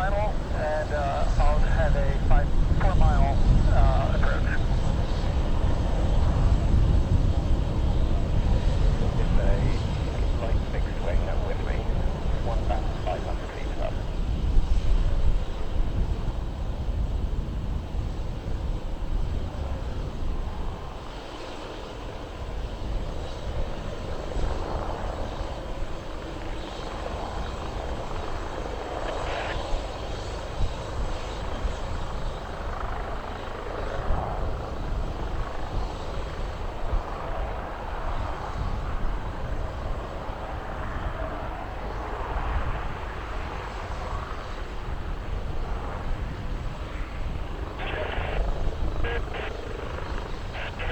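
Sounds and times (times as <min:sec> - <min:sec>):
helicopter rotor and engine noise: 0:00.0 - 0:50.9.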